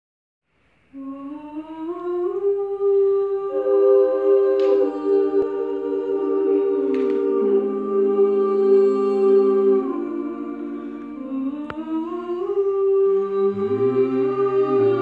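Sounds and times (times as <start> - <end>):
group humming a cappella chords: 0.9 - 15.0.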